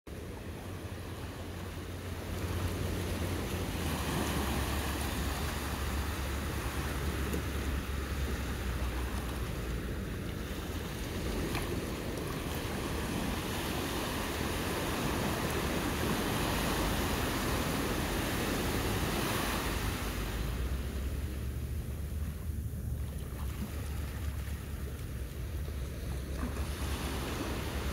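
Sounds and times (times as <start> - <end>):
surf washing on a beach: 0.1 - 27.9.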